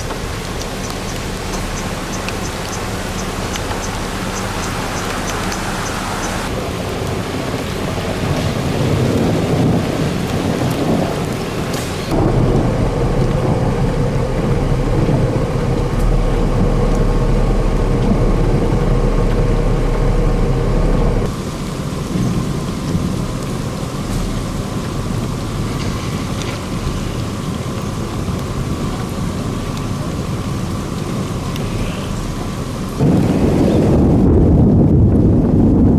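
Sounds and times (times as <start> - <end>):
rain falling: 0.0 - 35.9
wind rumble on microphone: 0.0 - 35.9.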